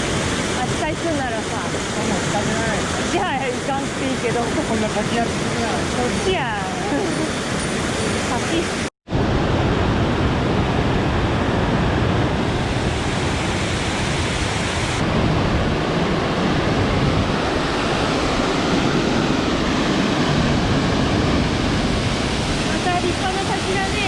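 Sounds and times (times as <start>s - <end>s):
waterfall rushing: 0.0s - 8.9s, 11.8s - 24.0s.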